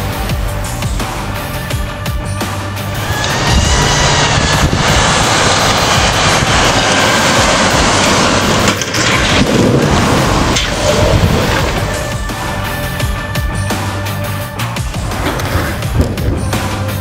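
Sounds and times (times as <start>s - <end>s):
loud rushing noise of car: 1.2s - 17.0s.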